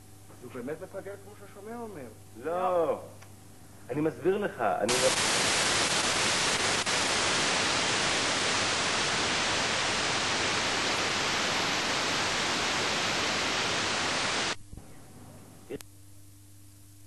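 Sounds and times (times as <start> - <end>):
loud static hiss: 0.0 - 17.0.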